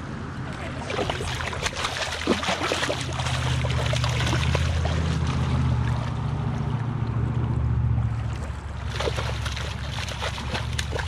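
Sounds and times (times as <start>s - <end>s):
fish splashing in water: 0.5s - 11.0s.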